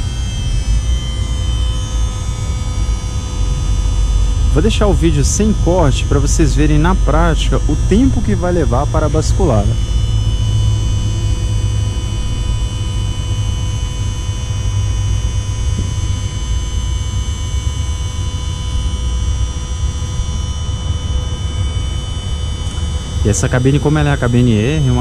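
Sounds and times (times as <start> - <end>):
electric pump motor whining: 0.0 - 25.0.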